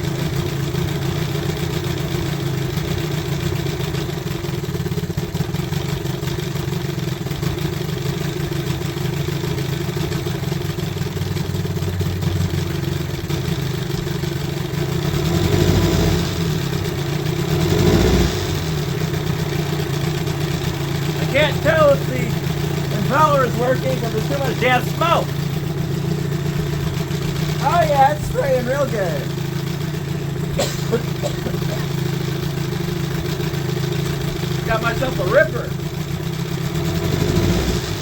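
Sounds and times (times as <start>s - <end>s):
outboard motor idling: 0.0s - 38.0s
outboard motor revving: 0.0s - 38.0s.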